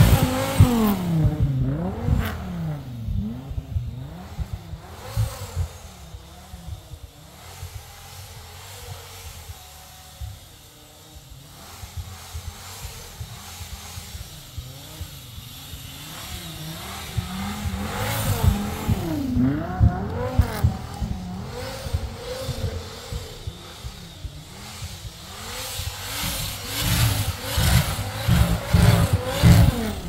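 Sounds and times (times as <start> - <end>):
car engine revving hard: 0.0 - 30.0.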